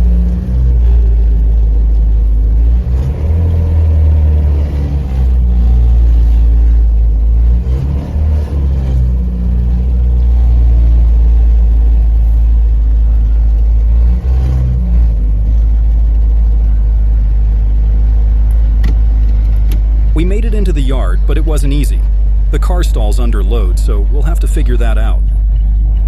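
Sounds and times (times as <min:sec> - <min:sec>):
car engine rumbling under load: 0:00.0 - 0:26.0.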